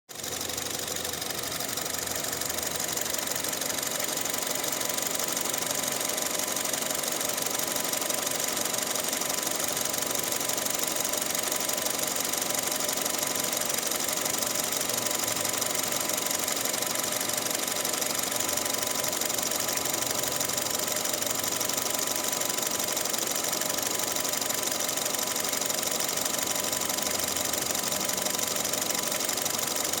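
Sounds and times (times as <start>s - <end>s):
car engine idling with ticking: 0.1s - 30.0s.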